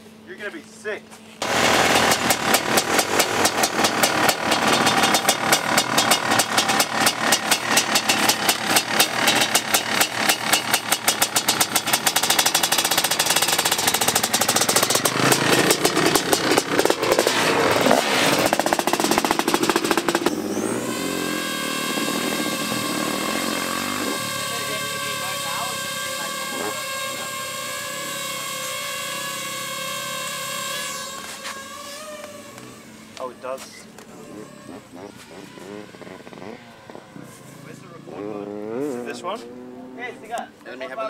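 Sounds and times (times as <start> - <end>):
drone propellers whining: 1.4 - 40.3
dirt bike engine revving: 1.4 - 40.4.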